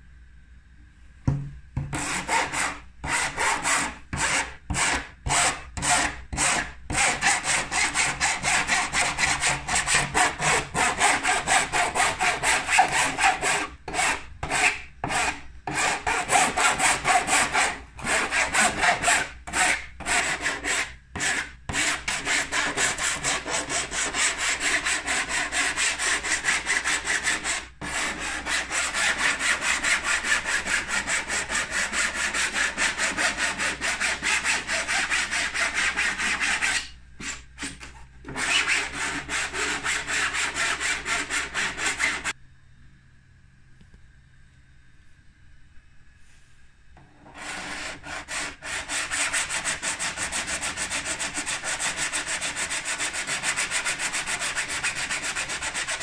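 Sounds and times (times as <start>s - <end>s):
metal file rasping on plastic: 1.9s - 42.4s, 47.3s - 56.0s.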